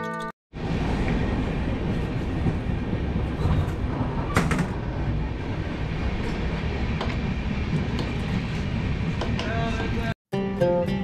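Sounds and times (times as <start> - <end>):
train coach rumbling on track: 0.6 - 10.2.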